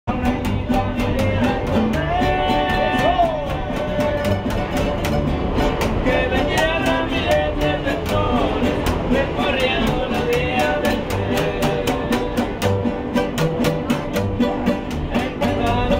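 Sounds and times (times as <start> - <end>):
man singing: 0.1 - 5.0, 5.9 - 12.9, 14.6 - 15.9
plucked bass: 0.1 - 15.9
strummed acoustic guitars: 0.1 - 15.9.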